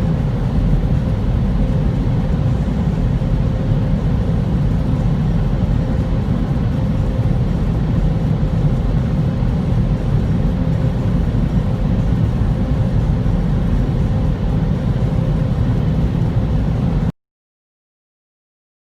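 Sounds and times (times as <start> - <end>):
car wash machinery rumbling: 0.0 - 17.1.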